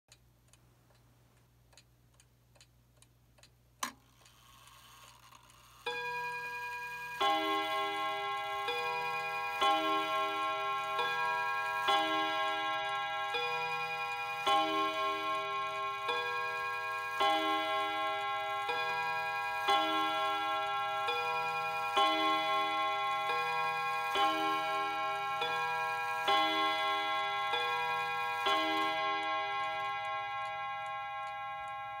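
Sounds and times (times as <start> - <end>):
mantel clock chiming: 4.1 - 32.0.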